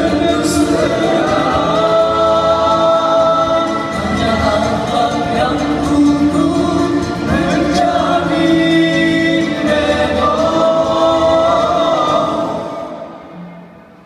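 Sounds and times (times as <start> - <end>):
male vocal group singing in harmony: 0.0 - 13.2.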